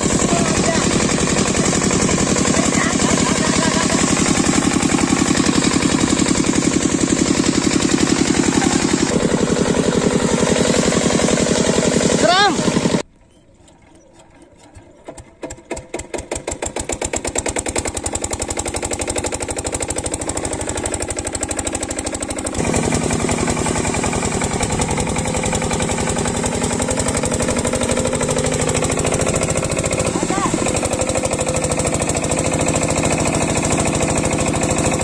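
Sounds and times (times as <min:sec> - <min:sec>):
diesel engine starting and running: 0:00.0 - 0:35.0.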